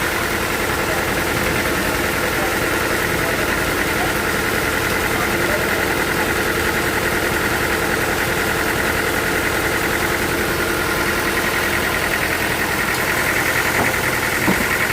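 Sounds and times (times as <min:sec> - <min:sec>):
sawmill machinery hum: 0:00.0 - 0:14.9.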